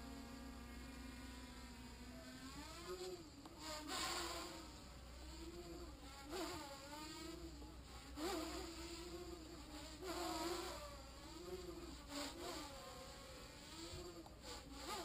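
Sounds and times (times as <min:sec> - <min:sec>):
quadcopter propellers buzzing: 0:00.0 - 0:15.0.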